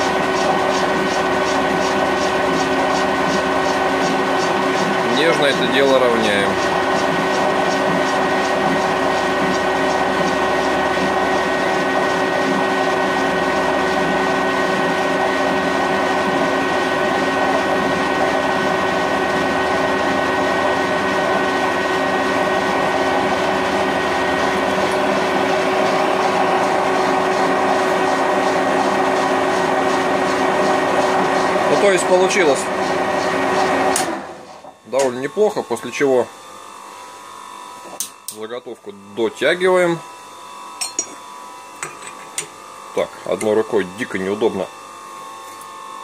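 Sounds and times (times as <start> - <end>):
lathe drive whine: 0.0 - 46.0.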